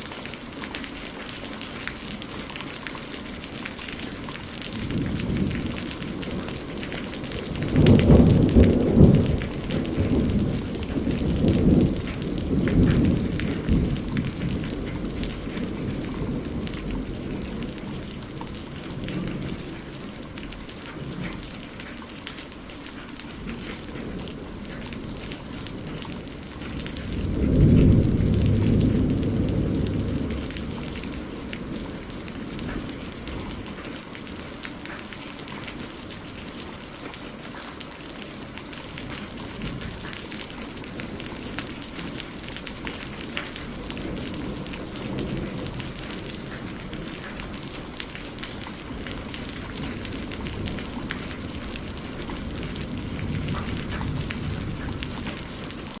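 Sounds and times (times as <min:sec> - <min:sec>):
rain pattering: 0:00.0 - 0:56.0
rolling thunder: 0:04.0 - 0:21.6, 0:23.3 - 0:34.4, 0:38.4 - 0:56.0.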